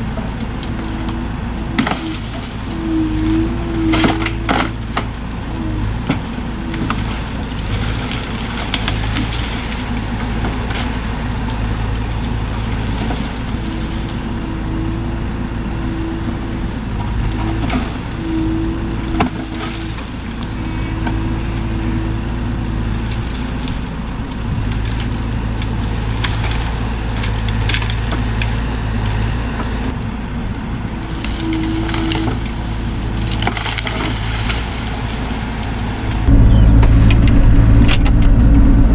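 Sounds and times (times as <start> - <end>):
excavator diesel engine running: 0.0 - 38.9
wood and vines cracking: 0.1 - 14.7, 16.5 - 30.0, 31.0 - 38.2.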